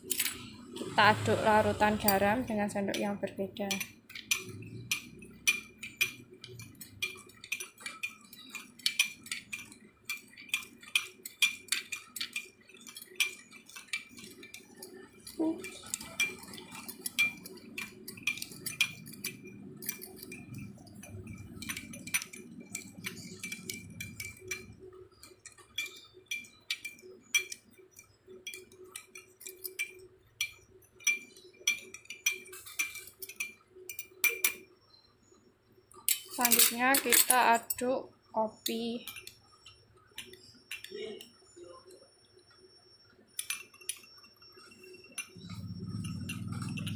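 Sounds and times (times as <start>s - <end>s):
metal spoon clinking in glass bowl: 1.8s - 34.7s, 35.9s - 37.9s, 38.6s - 41.6s, 43.4s - 46.9s.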